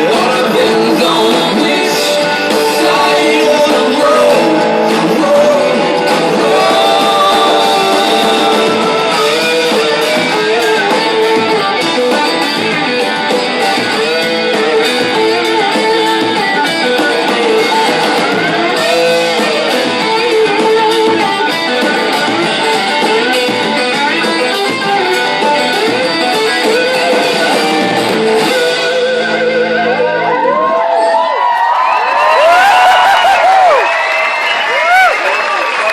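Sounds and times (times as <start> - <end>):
amplified electric guitar: 0.0 - 33.9
live rock band playing: 0.0 - 35.9.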